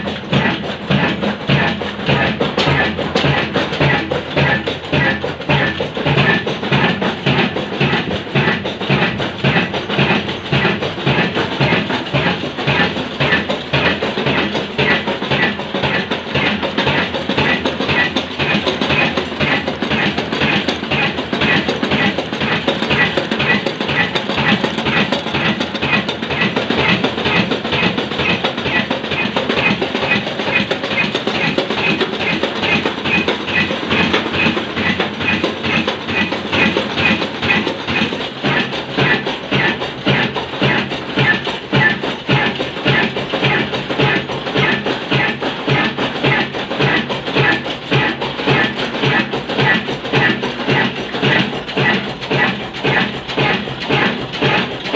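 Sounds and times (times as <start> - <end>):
diesel engine knocking: 0.0 - 54.9.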